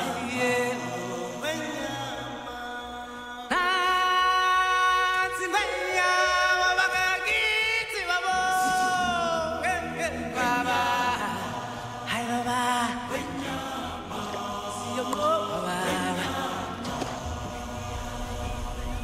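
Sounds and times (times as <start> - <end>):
chant-like singing voices: 0.0 - 19.0.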